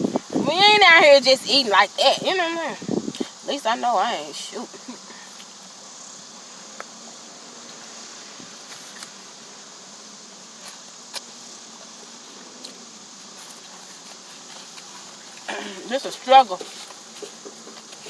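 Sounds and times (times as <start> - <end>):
low room noise hiss: 0.0 - 18.0.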